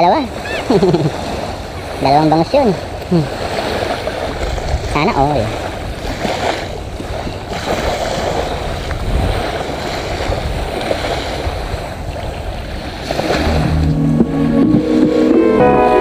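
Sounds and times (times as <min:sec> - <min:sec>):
small waves lapping on sand: 0:00.0 - 0:16.0
wind buffeting microphone: 0:00.0 - 0:16.0.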